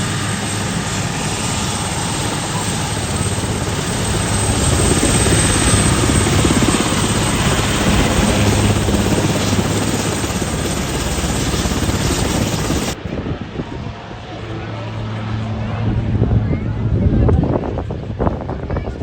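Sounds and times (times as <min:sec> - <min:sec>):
helicopter rotor chopping: 0:00.0 - 0:19.0.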